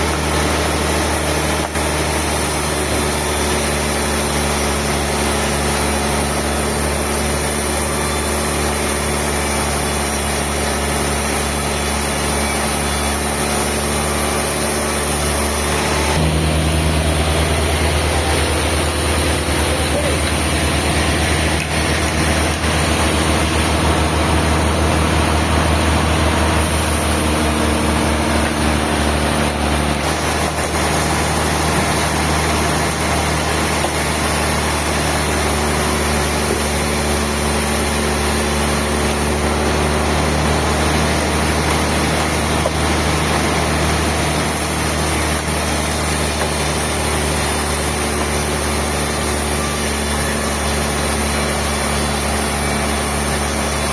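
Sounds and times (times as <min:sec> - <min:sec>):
sawmill machinery humming: 0:00.0 - 0:53.9.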